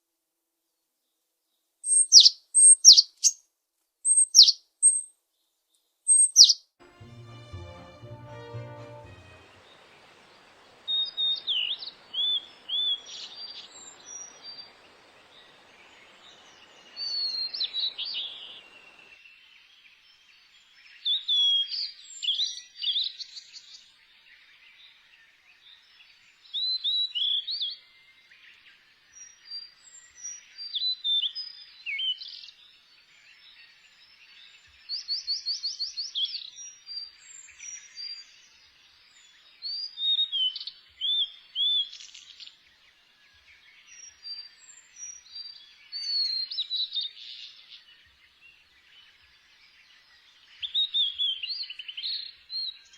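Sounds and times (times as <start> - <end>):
small birds singing and calling: 1.8 - 3.4, 4.1 - 5.5, 6.1 - 6.6, 9.7 - 52.9.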